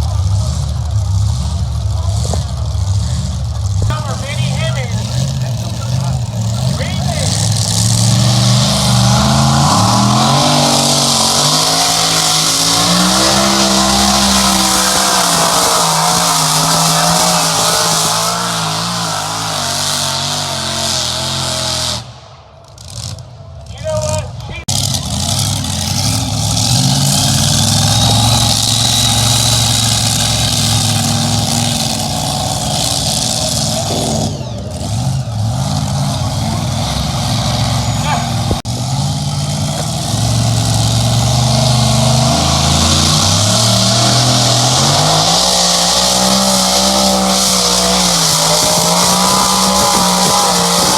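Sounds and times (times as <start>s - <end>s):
truck engine running hard: 0.0s - 50.9s.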